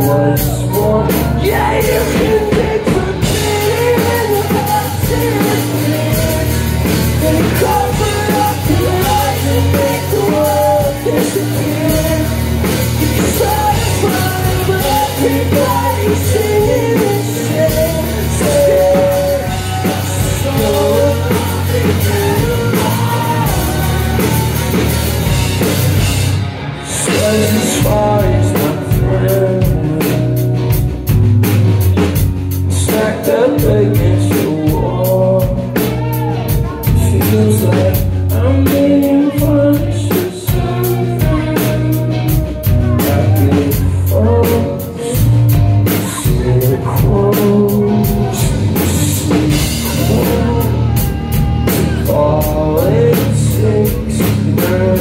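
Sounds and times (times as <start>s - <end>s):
bass guitar: 0.0s - 55.0s
drum kit: 0.0s - 55.0s
electric guitars: 0.0s - 55.0s
man singing lead: 0.0s - 55.0s.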